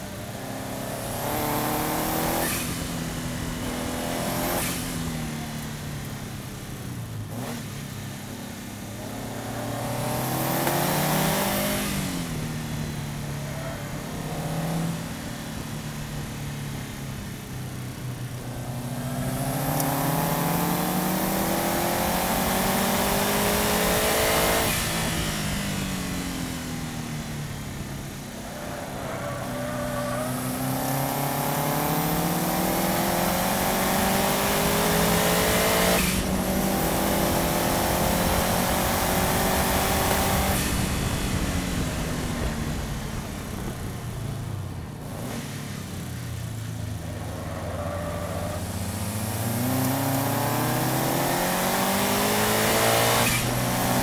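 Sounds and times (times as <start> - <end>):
road and wind noise: 0.0 - 54.0
car engine revving: 0.2 - 8.3, 8.9 - 44.3, 45.0 - 54.0.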